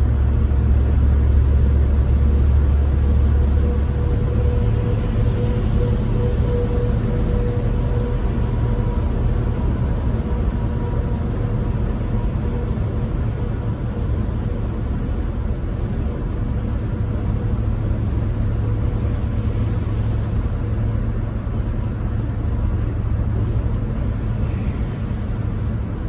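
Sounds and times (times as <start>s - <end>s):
constant low hum: 0.0s - 26.0s
van engine and road noise: 0.0s - 26.0s.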